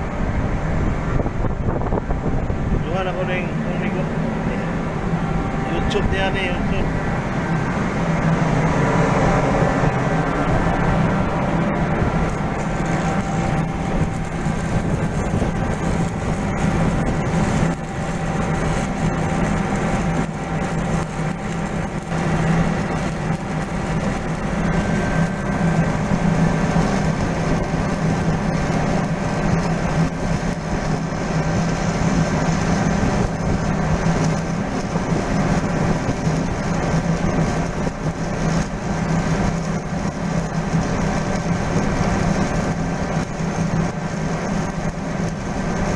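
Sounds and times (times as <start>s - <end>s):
machinery drone with low hum: 0.0s - 45.9s.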